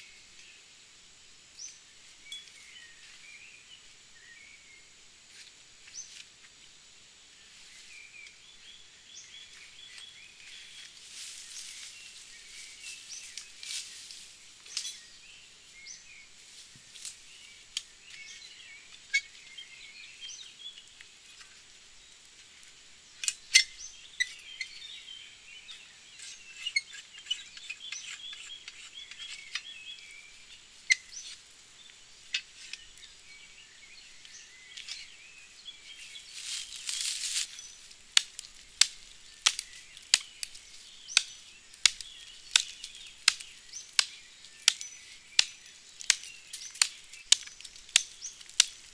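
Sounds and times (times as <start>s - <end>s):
birds chirping and singing: 1.6s - 4.9s, 7.7s - 22.3s, 23.0s - 48.9s.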